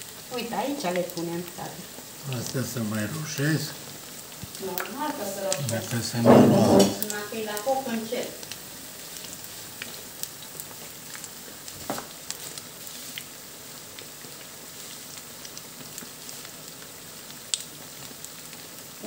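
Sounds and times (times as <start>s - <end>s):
oil popping and crackling: 0.0s - 19.0s
onion rings sizzling in a pan: 0.0s - 19.0s.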